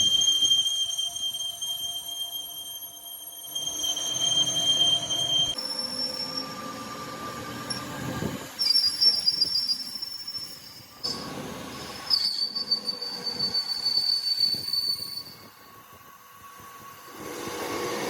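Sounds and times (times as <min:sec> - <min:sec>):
high metallic squeal: 0:00.0 - 0:17.1.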